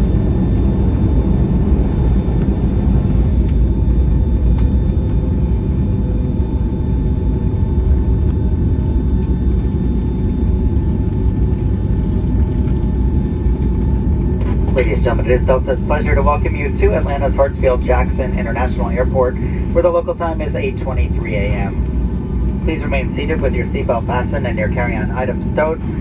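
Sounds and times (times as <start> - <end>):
faint steady whine: 0.0 - 26.0
low rumble of aircraft cabin: 0.0 - 26.0.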